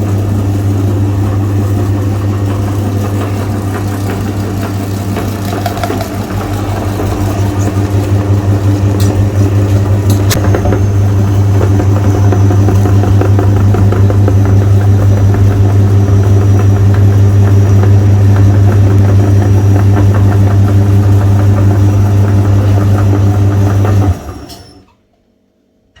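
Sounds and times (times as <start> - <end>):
electric meat grinder running: 0.0 - 24.8.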